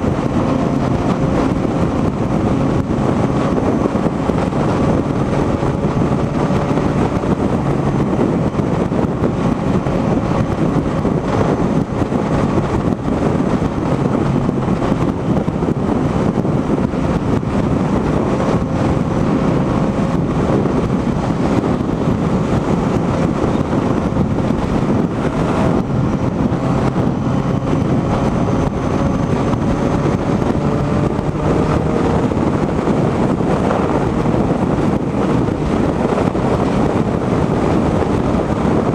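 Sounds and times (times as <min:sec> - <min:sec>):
motorcycle engine drone: 0:00.0 - 0:38.9
wind rushing over microphone: 0:00.0 - 0:38.9.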